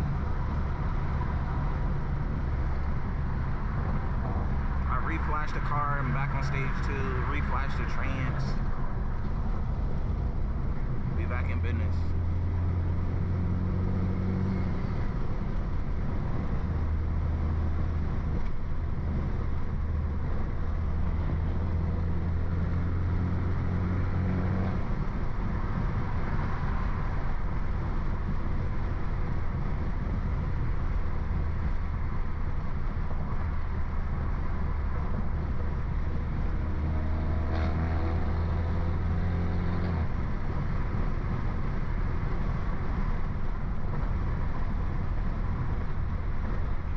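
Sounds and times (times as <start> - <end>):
car engine and exhaust drone: 0.0 - 46.9
road noise: 0.0 - 46.9.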